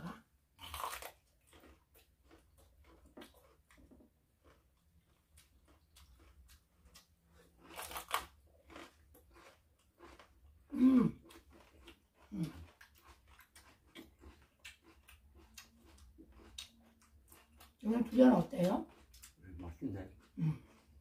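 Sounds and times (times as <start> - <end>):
crunching raw vegetables: 0.6 - 21.0.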